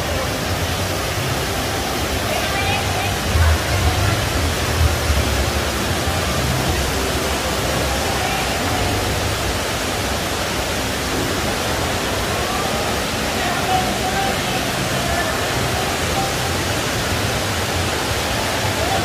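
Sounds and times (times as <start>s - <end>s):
indoor waterfall rushing: 0.0s - 19.0s.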